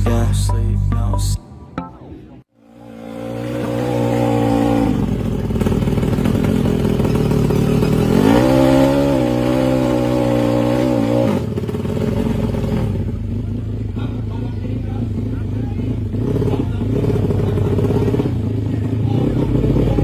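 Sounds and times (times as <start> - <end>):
motorcycle engine revving: 2.6 - 20.0.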